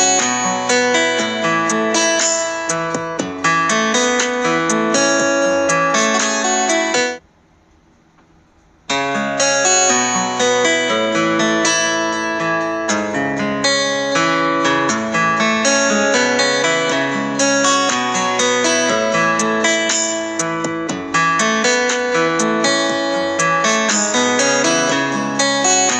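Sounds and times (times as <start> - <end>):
plucked string music: 0.0 - 7.2, 8.9 - 25.9.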